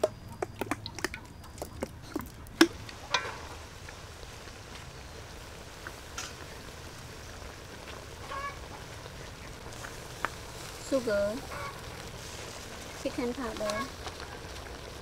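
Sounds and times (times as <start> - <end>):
sauce sizzling in a wok: 2.7 - 15.0.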